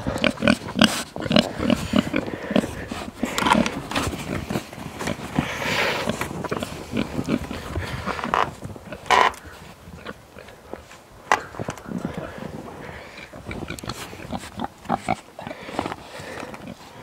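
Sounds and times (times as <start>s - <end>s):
pigs grunting: 0.0s - 17.0s
rustling: 0.0s - 17.0s.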